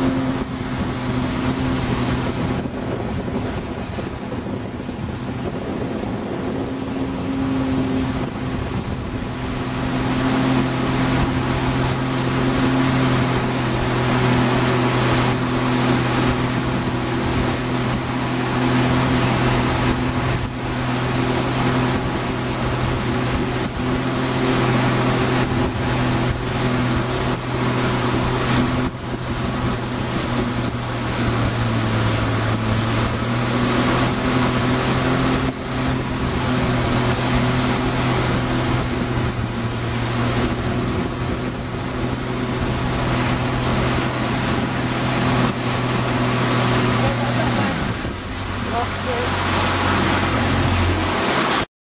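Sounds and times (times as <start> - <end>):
wind buffeting microphone: 0.0 - 51.6
boat engine running: 0.0 - 51.7
wake and spray rushing: 0.0 - 51.7.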